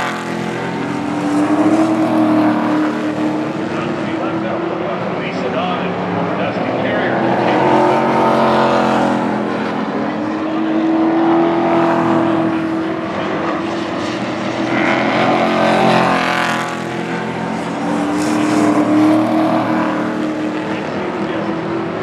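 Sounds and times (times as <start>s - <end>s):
race truck engines passing: 0.0s - 22.0s.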